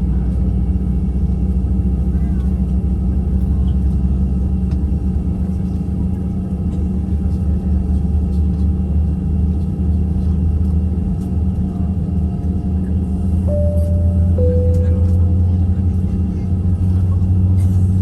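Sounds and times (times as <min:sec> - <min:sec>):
jet airliner cabin rumble: 0:00.0 - 0:18.0.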